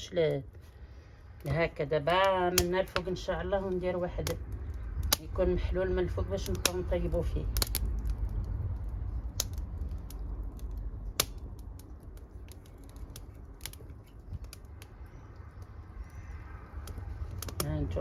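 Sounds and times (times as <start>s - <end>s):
wood fire crackling and popping: 0.0s - 18.0s
low rumble: 2.6s - 18.0s.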